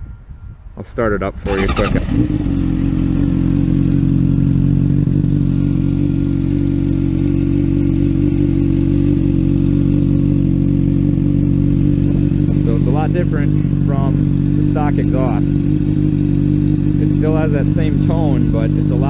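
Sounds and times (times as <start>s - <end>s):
motorcycle engine idling: 0.1s - 19.0s.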